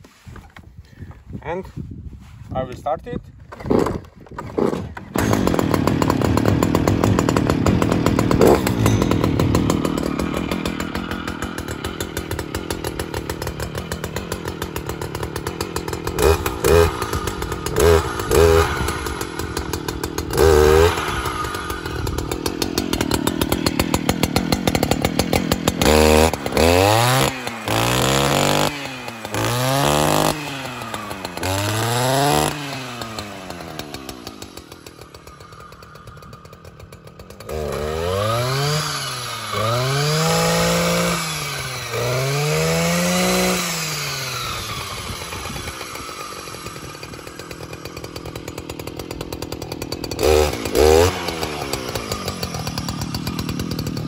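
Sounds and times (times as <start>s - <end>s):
brush cutter engine revving: 3.5s - 54.0s.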